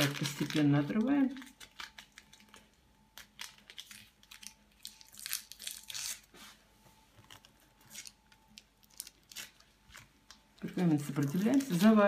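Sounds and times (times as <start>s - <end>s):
baking paper crinkling and tearing: 0.0s - 12.0s.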